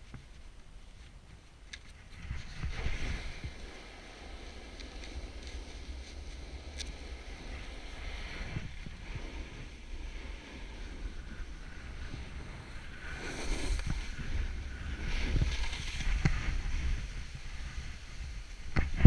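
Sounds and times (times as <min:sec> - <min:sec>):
wind buffeting microphone: 0:01.3 - 0:19.0
snowboard scraping over snow: 0:01.9 - 0:19.0.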